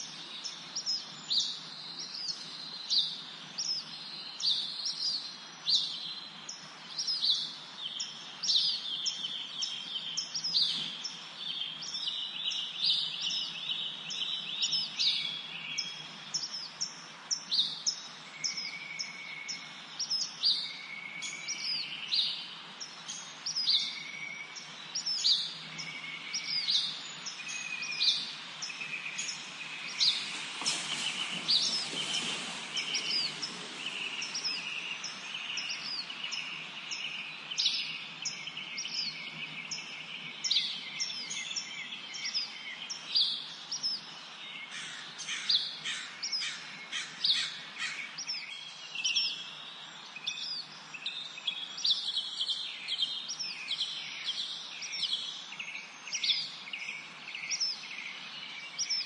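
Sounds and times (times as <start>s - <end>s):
faint background hiss: 0.0s - 59.0s
songbirds chirping and trilling: 0.0s - 59.0s.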